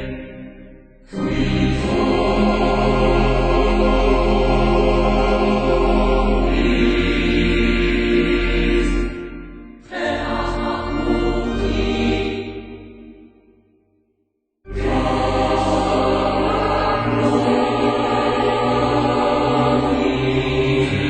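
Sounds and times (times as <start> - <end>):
slow sacred choral music: 0.0 - 13.8, 14.7 - 21.0.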